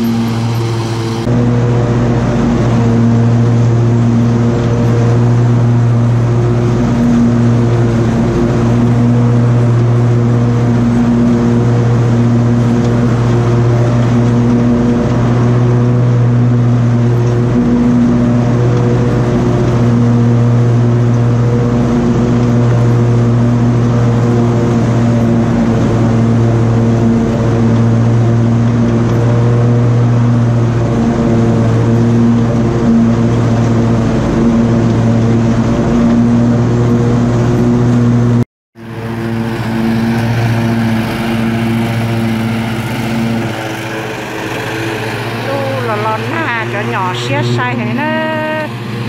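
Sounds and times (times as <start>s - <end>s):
lawn mower engine running: 0.0s - 49.0s.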